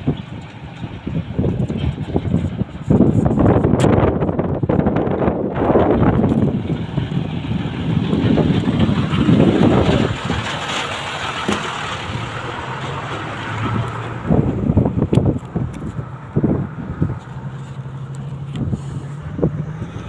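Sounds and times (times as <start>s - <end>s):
diesel truck driving past: 0.0s - 3.1s, 4.0s - 20.0s.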